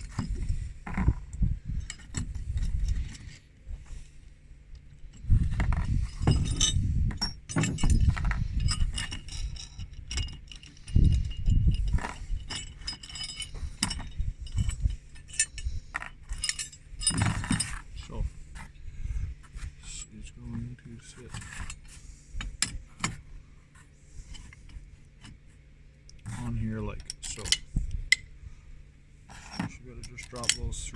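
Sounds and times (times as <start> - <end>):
metal bolts clinking and rattling: 0.0 - 3.4, 4.7 - 18.8, 19.8 - 23.2, 26.1 - 28.3, 29.3 - 30.9.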